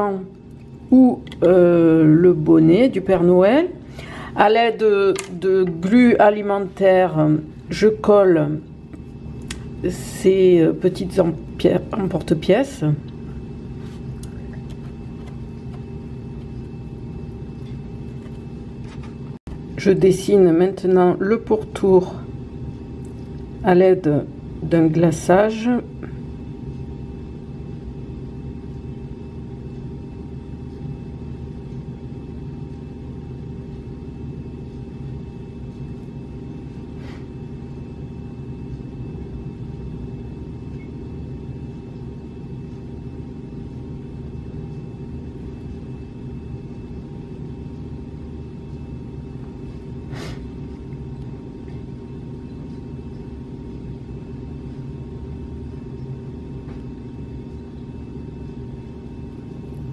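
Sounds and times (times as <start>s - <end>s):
machine low hum: 0.0s - 59.9s.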